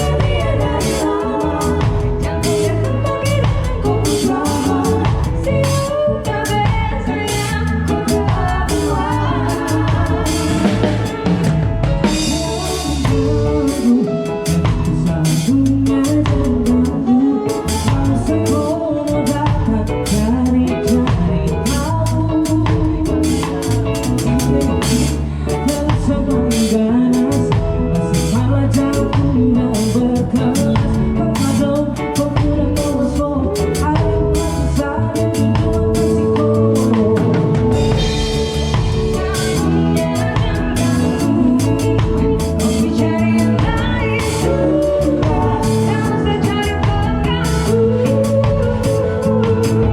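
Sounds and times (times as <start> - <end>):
drum kit beating: 0.0 - 49.9
woman singing: 0.0 - 49.9.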